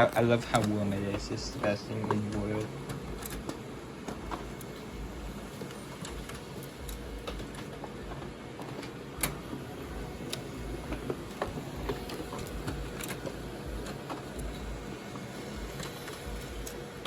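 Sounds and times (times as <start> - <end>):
laser printer humming: 0.0 - 17.0
printer clicks: 0.0 - 17.0.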